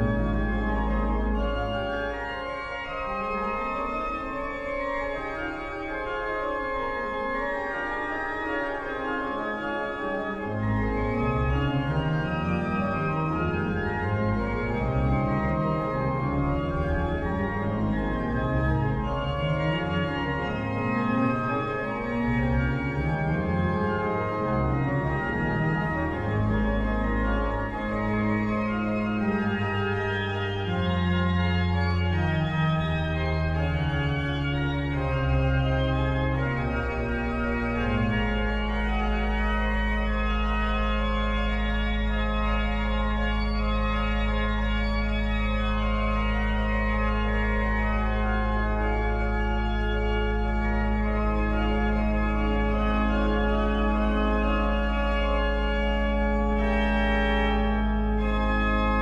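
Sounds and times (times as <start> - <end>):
pipe organ playing: 0.0 - 59.0.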